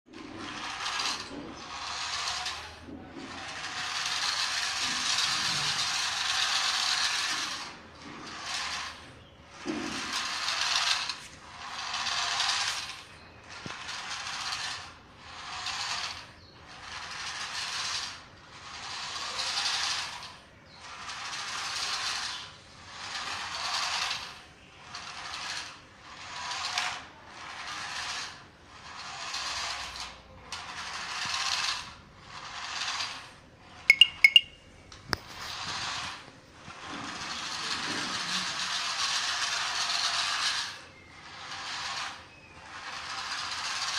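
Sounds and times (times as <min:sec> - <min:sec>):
toy car motor whirring: 0:00.1 - 0:43.9.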